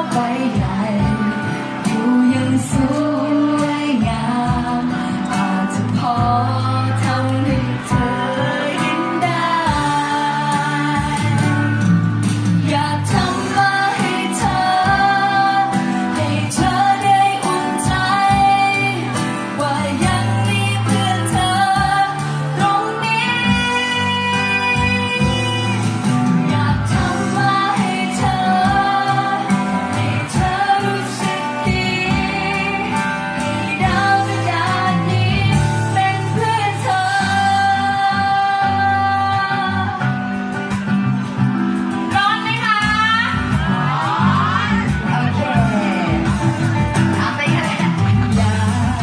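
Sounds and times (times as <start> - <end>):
acoustic guitar: 0.0 - 49.0
woman singing into a microphone: 0.0 - 49.0.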